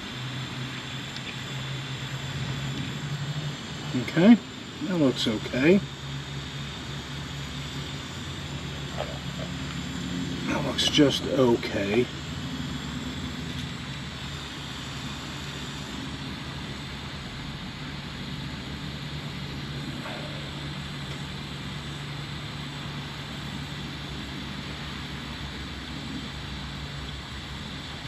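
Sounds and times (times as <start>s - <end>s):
even hiss: 0.0s - 28.0s
machine hum: 0.0s - 28.0s.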